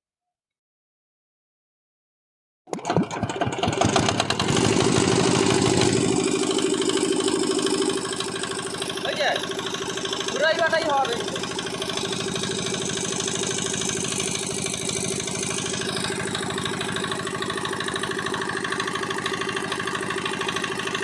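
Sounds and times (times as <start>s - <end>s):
small diesel engine running: 2.7s - 21.0s.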